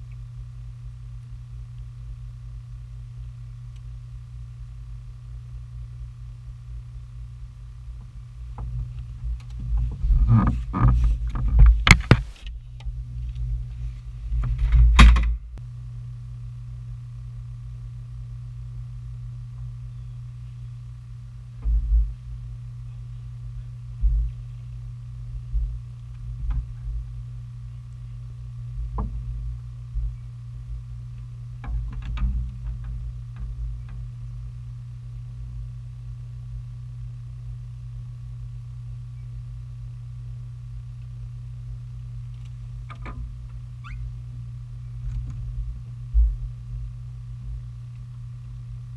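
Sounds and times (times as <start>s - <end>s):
electric boat motor humming: 0.0s - 48.9s.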